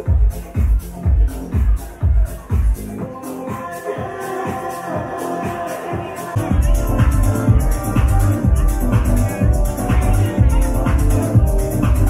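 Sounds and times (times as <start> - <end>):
heavy bass beat: 0.0 - 12.0
loud electronic dance music: 0.0 - 12.0.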